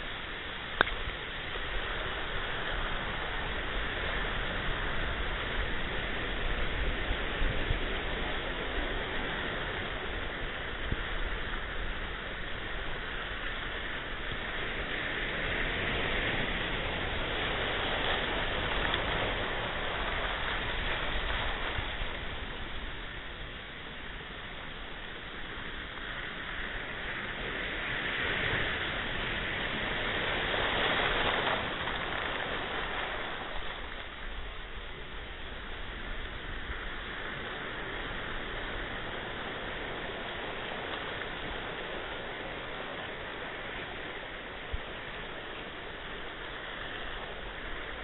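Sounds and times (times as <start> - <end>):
ocean waves washing in: 0.0 - 48.0.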